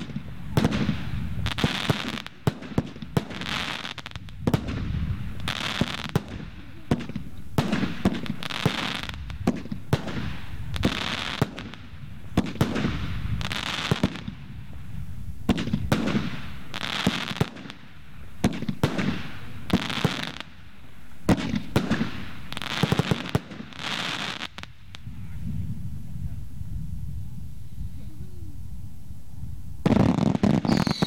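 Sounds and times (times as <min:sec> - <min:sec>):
fireworks bangs: 0:00.0 - 0:25.1, 0:29.8 - 0:31.0.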